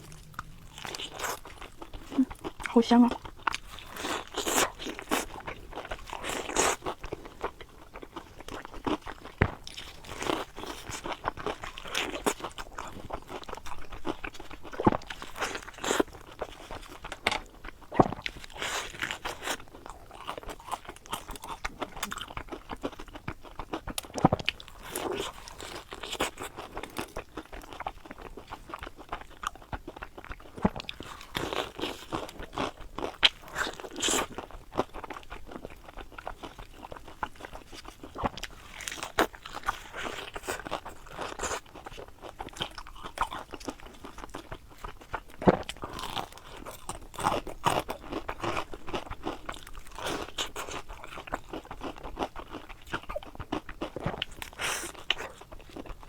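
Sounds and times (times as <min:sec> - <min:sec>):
crunching and chewing fried food: 0:00.0 - 0:56.0.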